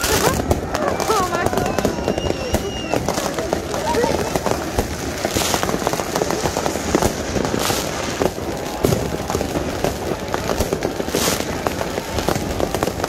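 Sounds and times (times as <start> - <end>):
fireworks bangs and crackles: 0.0 - 13.0
fireworks hissing bursts: 0.0 - 13.0.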